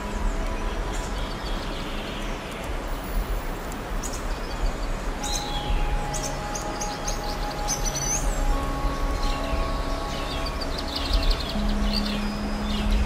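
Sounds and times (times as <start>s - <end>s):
songbirds chirping and singing: 0.0s - 13.0s
steady rushing noise: 0.0s - 13.0s.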